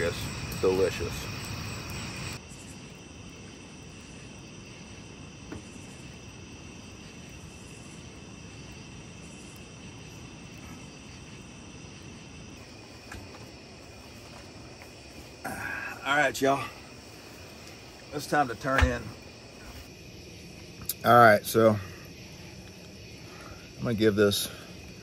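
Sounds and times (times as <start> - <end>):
night insects trilling: 0.0 - 25.0.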